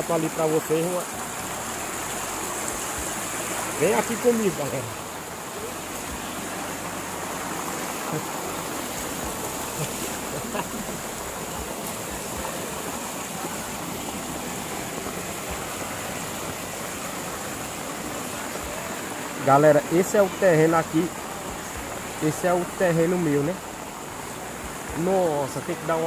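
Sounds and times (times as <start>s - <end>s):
rainwater rushing along a channel: 0.0s - 26.0s.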